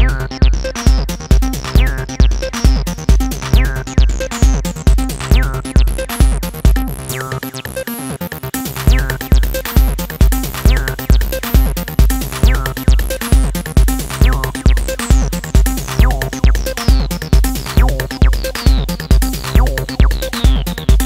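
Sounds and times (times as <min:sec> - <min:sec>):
kick drum: 0:00.0 - 0:07.1, 0:08.9 - 0:21.0
electronic dance music: 0:00.0 - 0:21.0.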